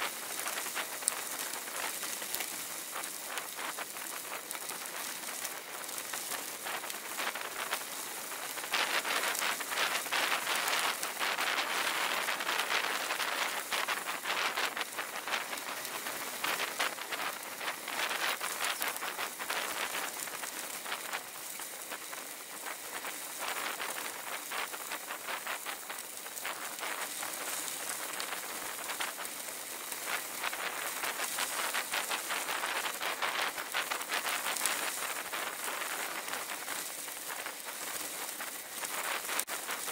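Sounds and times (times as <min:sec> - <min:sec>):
bicycle tyres rolling on gravel: 0:00.0 - 0:39.9.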